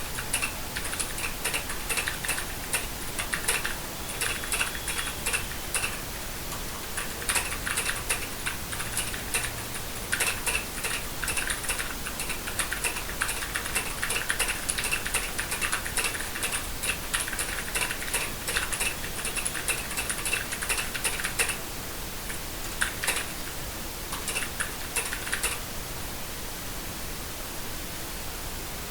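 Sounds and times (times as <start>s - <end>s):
fast keyboard typing: 0.0s - 25.7s.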